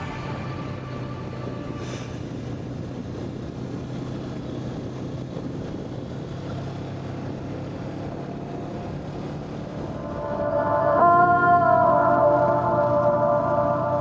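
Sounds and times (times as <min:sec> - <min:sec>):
wind and road noise: 0:00.0 - 0:11.9.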